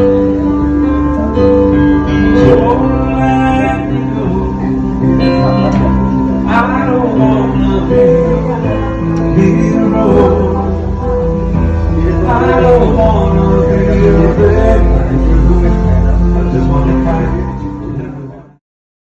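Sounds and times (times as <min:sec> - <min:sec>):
guitar and instruments: 0:00.0 - 0:18.6
man singing: 0:00.0 - 0:18.6.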